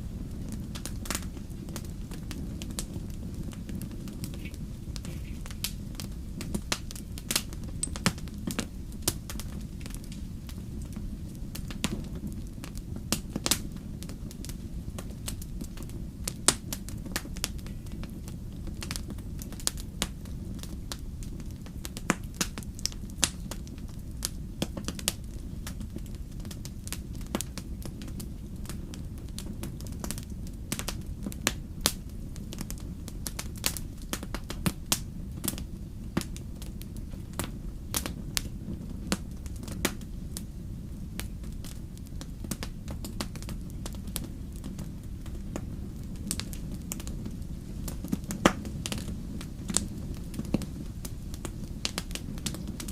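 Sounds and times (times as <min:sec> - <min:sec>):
low fire rumble: 0:00.0 - 0:52.9
wood fire crackling and popping: 0:00.0 - 0:52.9.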